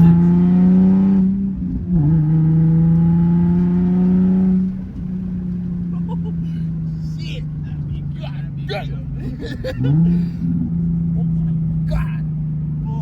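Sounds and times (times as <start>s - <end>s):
loud car exhaust at steady revs: 0.0s - 13.0s.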